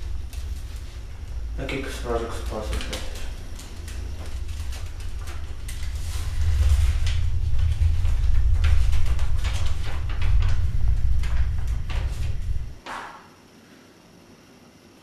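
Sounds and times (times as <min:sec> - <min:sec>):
low rumble: 0:00.0 - 0:12.8.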